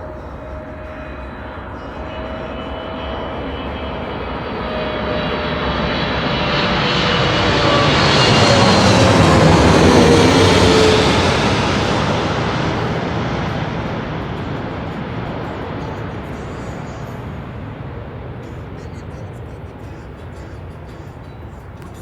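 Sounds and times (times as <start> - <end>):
airplane flying overhead: 0.0 - 22.0
engine whine dropping in pitch: 0.0 - 22.0.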